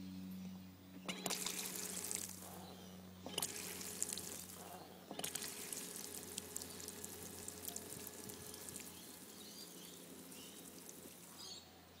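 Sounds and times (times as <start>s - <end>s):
water trickling and spattering: 1.2s - 2.6s, 3.3s - 11.6s.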